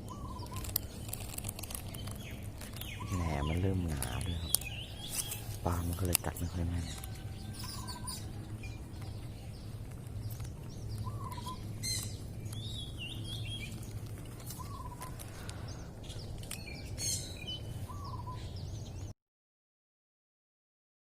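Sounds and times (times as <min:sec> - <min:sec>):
steady low rumble: 0:00.0 - 0:18.8
birds chirping and trilling: 0:00.0 - 0:19.1.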